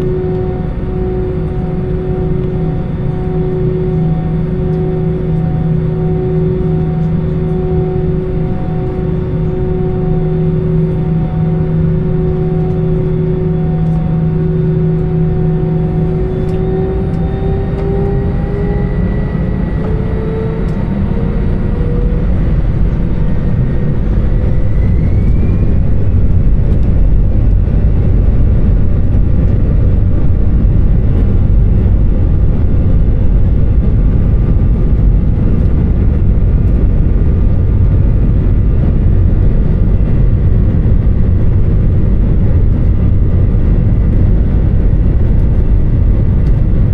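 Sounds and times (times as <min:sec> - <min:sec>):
deep steady rumble: 0:00.0 - 0:46.9
jet engines whining: 0:00.0 - 0:46.9.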